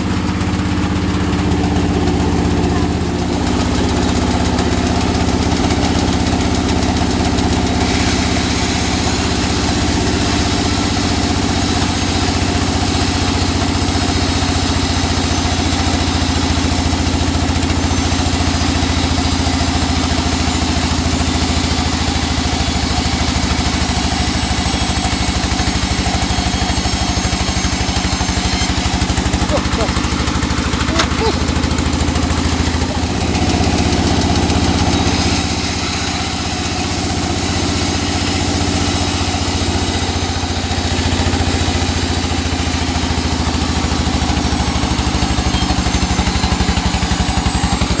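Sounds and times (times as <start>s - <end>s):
sawmill engine drone: 0.0s - 48.0s.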